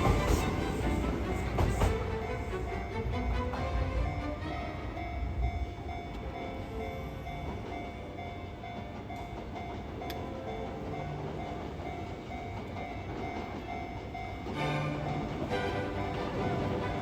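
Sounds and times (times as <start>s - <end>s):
level crossing warning bell: 0.0s - 17.0s
train rumbling past: 0.0s - 17.0s.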